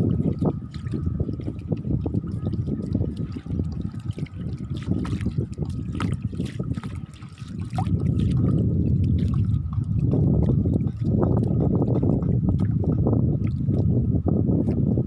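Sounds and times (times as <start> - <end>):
dog splashing through water: 0.0 - 13.9
dense low rumble: 0.0 - 15.0.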